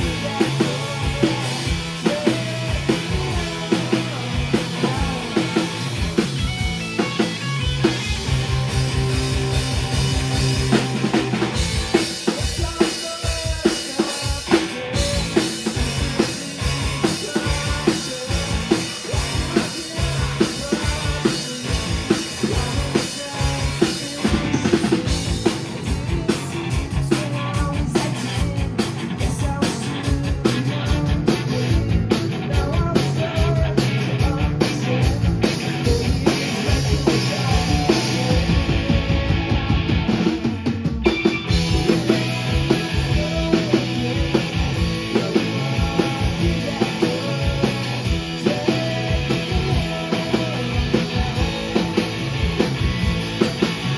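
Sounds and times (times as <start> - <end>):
drum kit beat: 0.0 - 53.9
electric bass: 0.0 - 53.9
electric guitars: 0.0 - 53.9.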